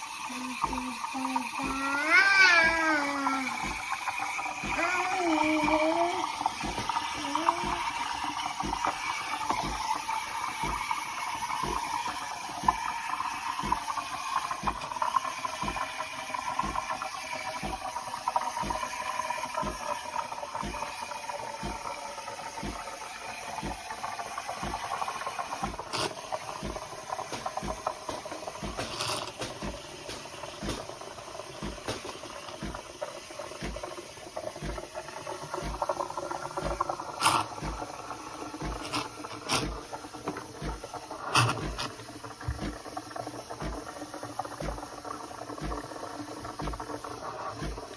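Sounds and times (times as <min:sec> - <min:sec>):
espresso machine hissing and rattling: 0:00.0 - 0:42.8, 0:46.5 - 0:47.9.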